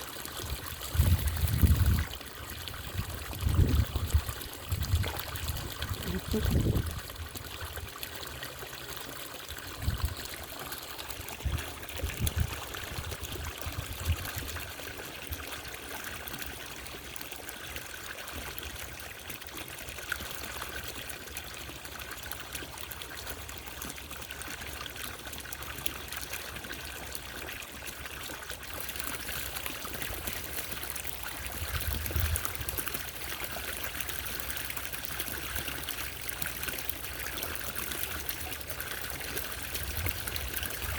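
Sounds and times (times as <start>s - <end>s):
fountain water trickling: 0.0s - 40.9s.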